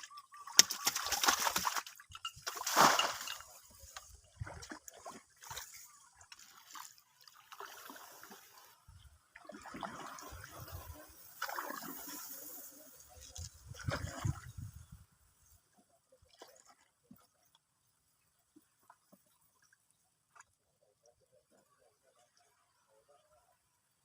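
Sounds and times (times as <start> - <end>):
water splashing and sloshing: 0.0 - 20.8.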